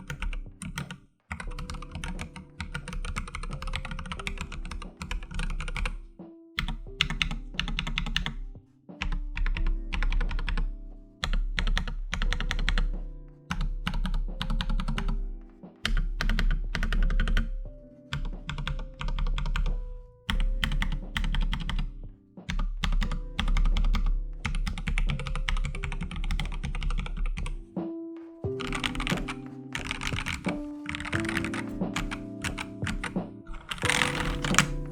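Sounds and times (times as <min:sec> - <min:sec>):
mechanical keyboard keys clacking: 0:00.0 - 0:06.0, 0:06.6 - 0:08.4, 0:09.0 - 0:12.9, 0:13.5 - 0:15.2, 0:15.8 - 0:17.5, 0:18.1 - 0:21.9, 0:22.5 - 0:27.6, 0:28.5 - 0:34.9
background music: 0:00.0 - 0:34.9.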